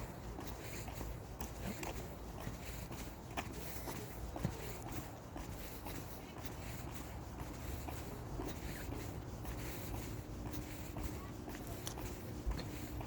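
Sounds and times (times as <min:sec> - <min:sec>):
footsteps and shuffling: 0:00.0 - 0:13.0.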